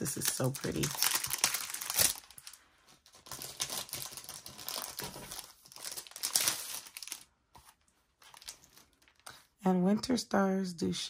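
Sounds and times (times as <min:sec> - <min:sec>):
crinkly packaging rustling: 0:00.0 - 0:09.5.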